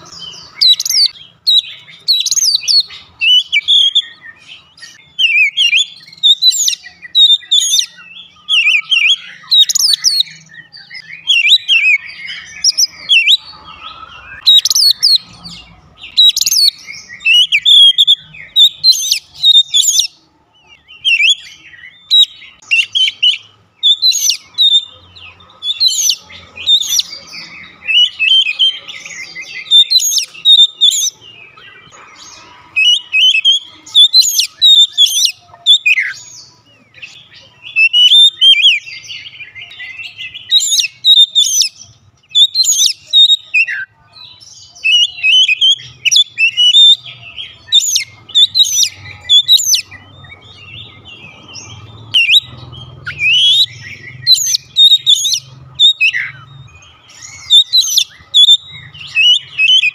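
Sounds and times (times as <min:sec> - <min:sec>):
bird singing whistled phrases: 0:00.0 - 0:15.4, 0:16.1 - 0:20.2, 0:20.8 - 0:24.9, 0:25.6 - 0:31.8, 0:32.7 - 0:36.4, 0:37.0 - 0:51.1, 0:51.7 - 0:59.9.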